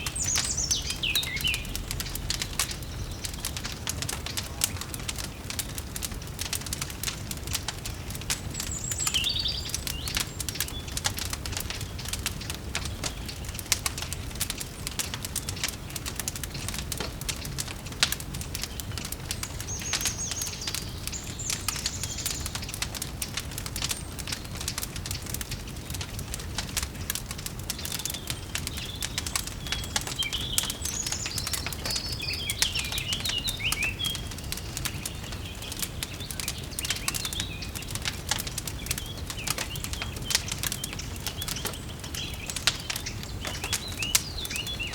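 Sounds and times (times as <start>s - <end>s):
songbirds chirping: 0.0s - 44.9s
wood fire crackling: 0.0s - 44.9s.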